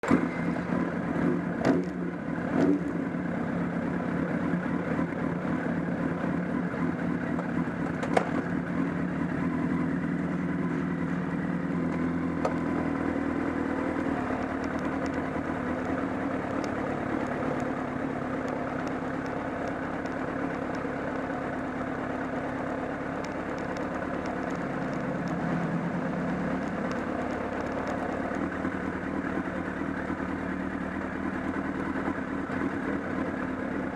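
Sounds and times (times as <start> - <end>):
engine clattering: 0.0 - 33.9
motorcycle engine running: 0.0 - 33.9.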